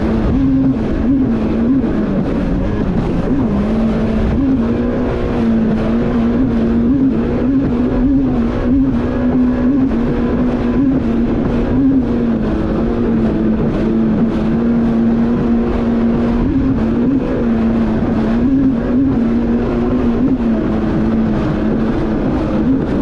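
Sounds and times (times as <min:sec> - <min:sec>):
personal watercraft engine: 0:00.0 - 0:23.0
rush of wind and water: 0:00.0 - 0:23.0.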